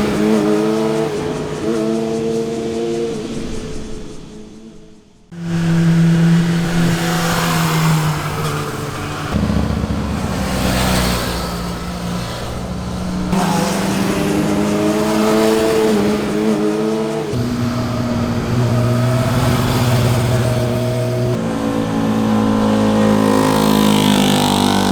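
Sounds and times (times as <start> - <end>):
motorcycles accelerating past: 0.0 - 3.4, 5.4 - 24.9.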